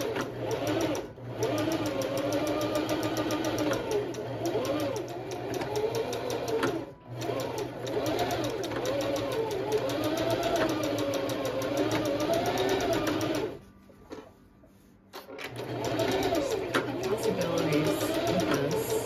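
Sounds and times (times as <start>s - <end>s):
sewing machine stitching: 0.0s - 13.6s, 15.2s - 19.0s.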